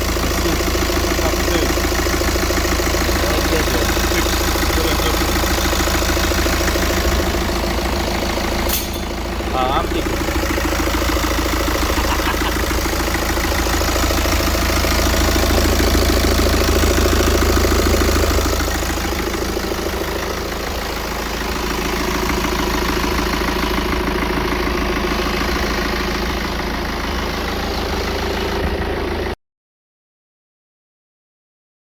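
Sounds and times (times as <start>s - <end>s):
diesel engine idling: 0.0s - 29.4s.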